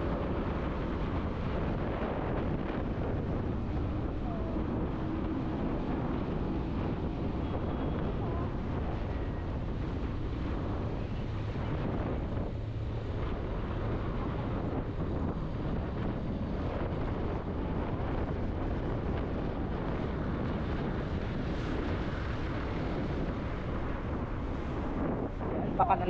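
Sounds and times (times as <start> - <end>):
road noise: 0.0 - 26.0
wind noise on microphone: 0.0 - 26.0.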